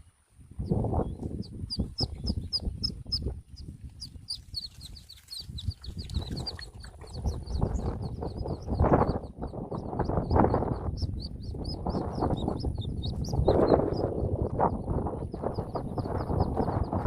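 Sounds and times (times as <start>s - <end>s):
ducklings peeping: 0.6s - 17.0s.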